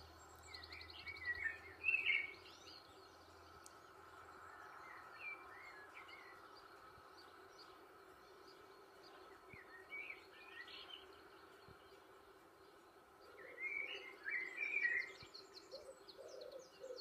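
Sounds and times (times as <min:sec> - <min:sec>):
faint steady hum: 0:00.0 - 0:16.8
small birds chirping: 0:00.0 - 0:17.0.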